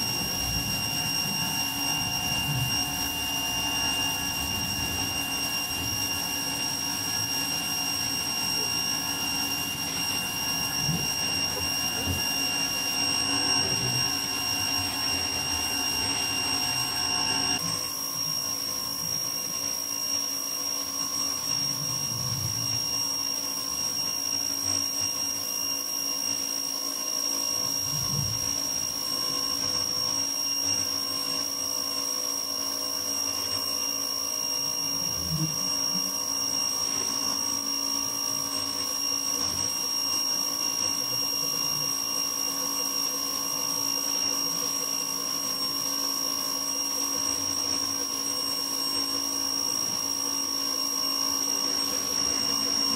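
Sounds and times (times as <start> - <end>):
pressure washer motor whine: 0.0 - 52.9.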